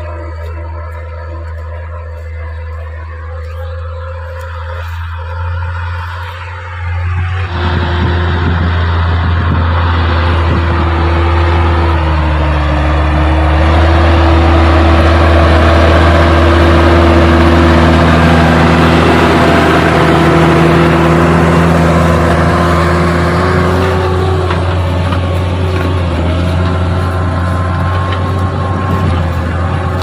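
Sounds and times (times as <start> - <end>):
broad rushing noise: 0.0 - 30.0
tractor diesel engine running: 0.0 - 30.0.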